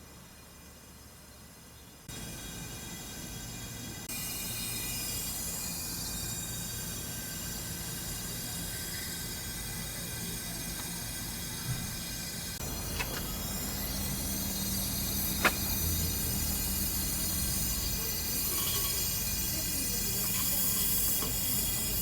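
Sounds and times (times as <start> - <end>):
constant hiss: 0.0 - 22.0
machinery hum: 0.0 - 22.0.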